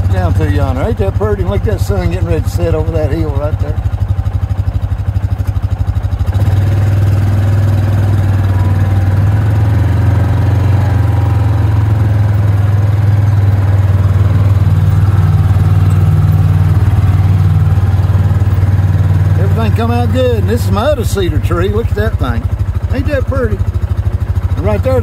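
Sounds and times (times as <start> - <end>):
utility vehicle engine droning: 0.0 - 25.0.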